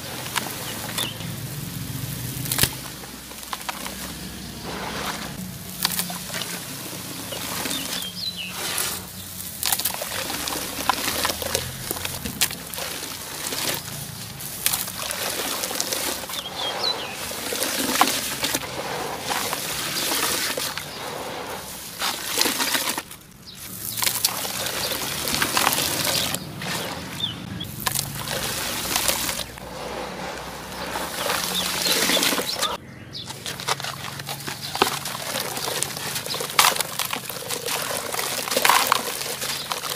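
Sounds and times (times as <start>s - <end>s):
hands crushing dry crunchy lumps: 0.0s - 39.9s
crumbs falling: 2.1s - 27.0s, 27.6s - 32.8s, 33.4s - 39.9s.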